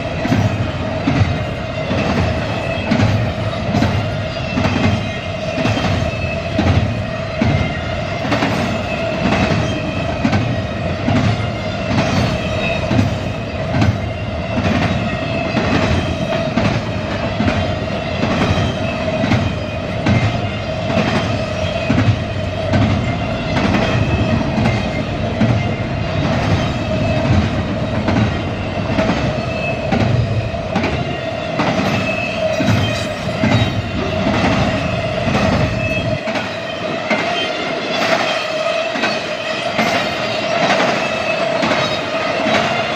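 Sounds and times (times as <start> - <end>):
train wheels clicking over rail joints: 0.0 - 42.9.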